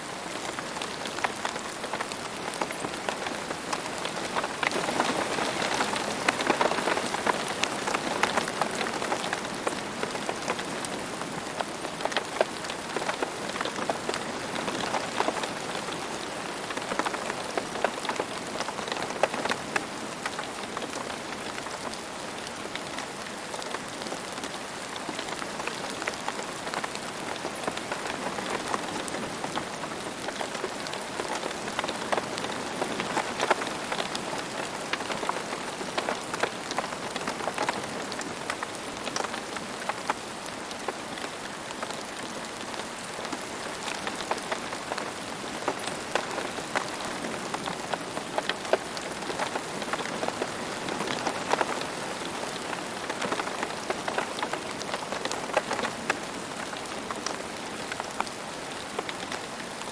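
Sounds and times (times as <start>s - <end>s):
rain on a hard surface: 0.0s - 59.9s.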